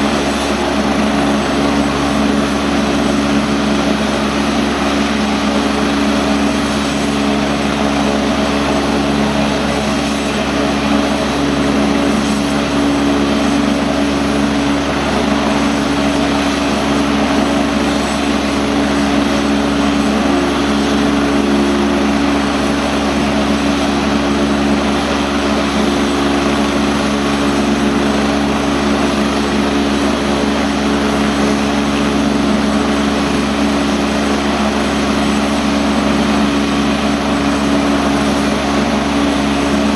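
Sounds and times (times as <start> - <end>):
helicopter idling hum and whine: 0.0 - 39.9.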